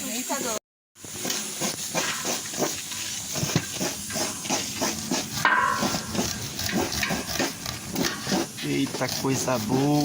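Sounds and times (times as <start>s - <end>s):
steady hiss: 0.0s - 10.0s
knife scraping corn cobs: 1.1s - 10.0s.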